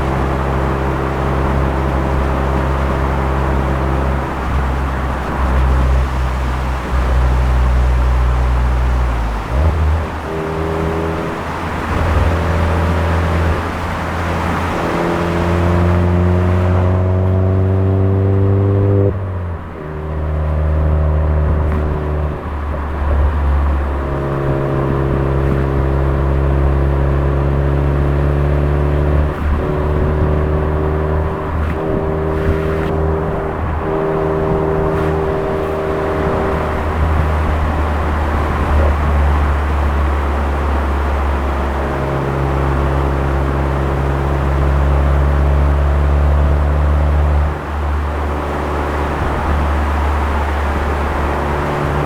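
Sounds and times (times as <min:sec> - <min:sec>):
car engine droning with gear changes: 0:00.0 - 0:52.0.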